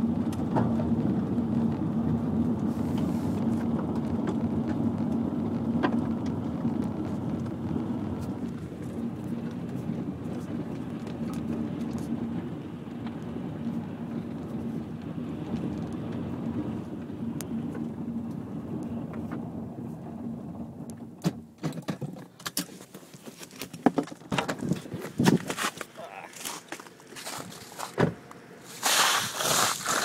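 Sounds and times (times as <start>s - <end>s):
car engine and road drone: 0.0s - 30.0s.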